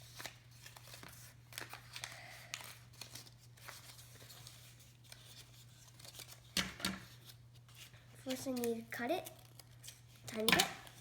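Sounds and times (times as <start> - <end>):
paper being folded: 0.0 - 6.5, 7.1 - 11.0.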